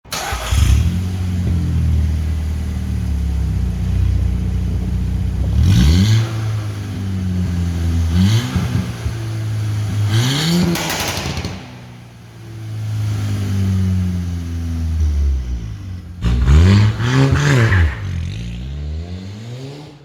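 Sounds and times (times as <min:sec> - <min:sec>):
car engine revving: 0:00.1 - 0:20.0.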